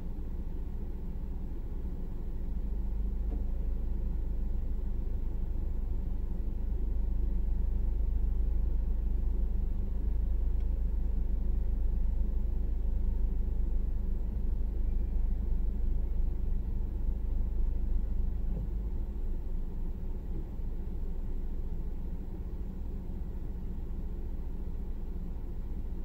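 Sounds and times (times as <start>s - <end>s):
low rumble in car cabin: 0.0s - 26.0s.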